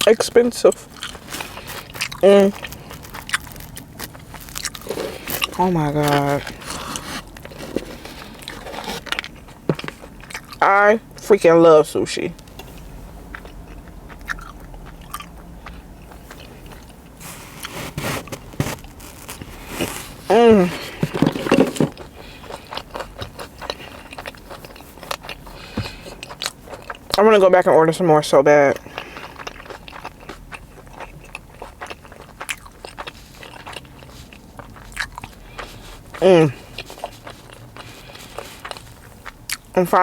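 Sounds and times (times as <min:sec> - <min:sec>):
person chewing food: 0:00.0 - 0:11.3, 0:12.4 - 0:27.3, 0:28.7 - 0:40.0.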